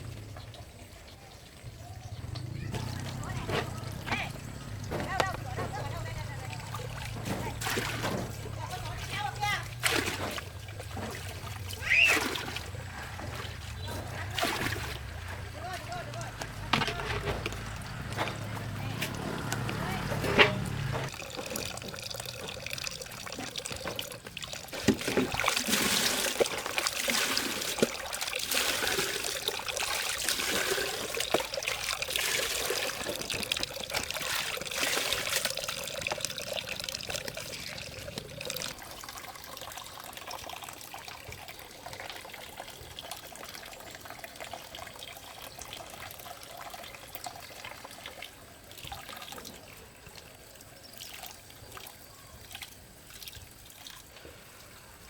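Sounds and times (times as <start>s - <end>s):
water trickling and pouring: 0.0s - 55.0s.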